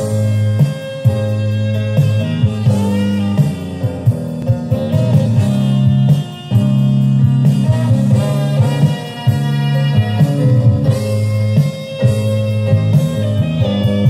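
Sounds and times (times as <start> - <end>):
rock music through small speaker: 0.0 - 14.0.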